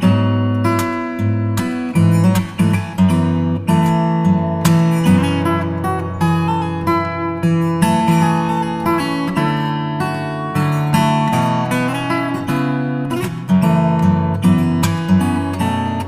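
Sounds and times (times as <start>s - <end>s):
acoustic guitar melody: 0.0s - 16.0s.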